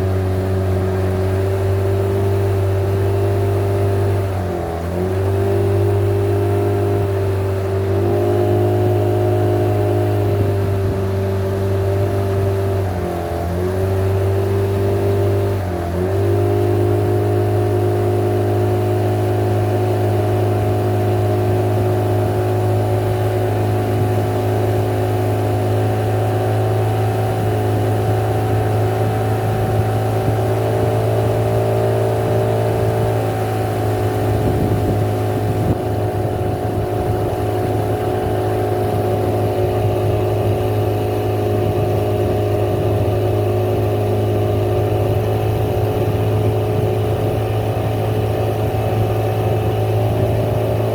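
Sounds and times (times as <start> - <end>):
motorboat engine running: 0.0 - 50.9.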